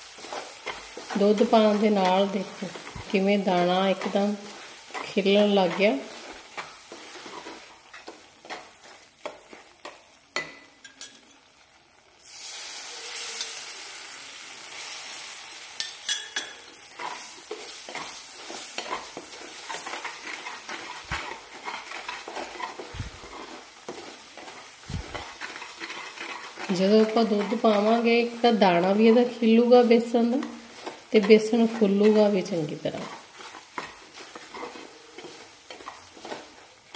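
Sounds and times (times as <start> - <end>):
spatula scraping a pan: 0.0 - 11.2, 15.8 - 36.9
milk sizzling in hot pan: 0.0 - 36.9.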